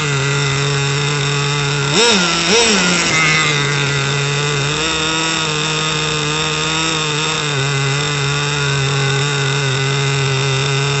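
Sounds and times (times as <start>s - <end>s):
small model engine idling: 0.0s - 11.0s.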